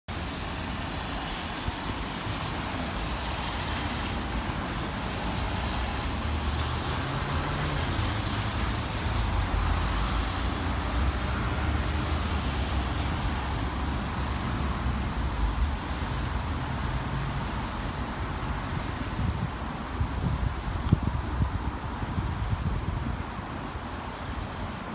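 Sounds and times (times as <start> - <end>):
wind gusts on microphone: 0.1 - 24.9
strong wind rushing: 1.3 - 24.9.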